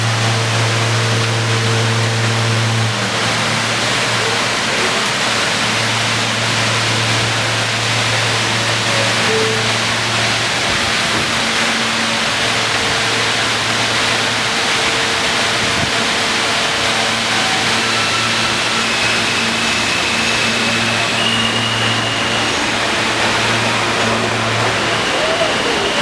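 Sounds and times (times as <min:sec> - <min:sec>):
subway train rumbling: 0:00.0 - 0:26.0.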